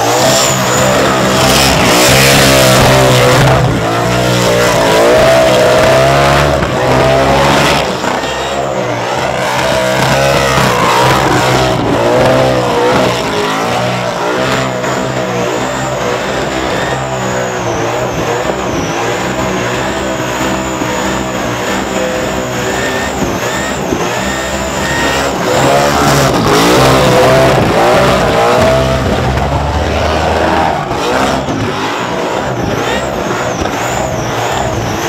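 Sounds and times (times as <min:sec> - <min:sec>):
car engine revving high: 0:00.0 - 0:35.0.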